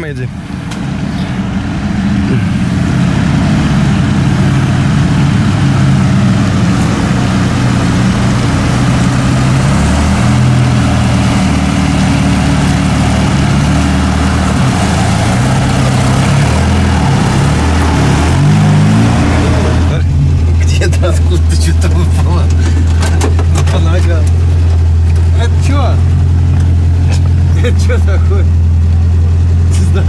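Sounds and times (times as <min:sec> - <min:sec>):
steady rush of noise: 0:00.0 - 0:28.4
off-road vehicle engine running: 0:00.0 - 0:30.0.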